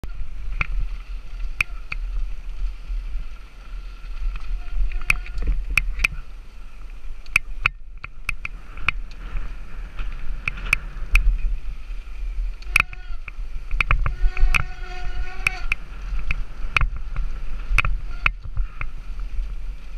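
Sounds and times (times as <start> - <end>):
bike clicks and rattles over bumps: 0.0 - 19.9
wind and terrain rumble: 0.0 - 19.9.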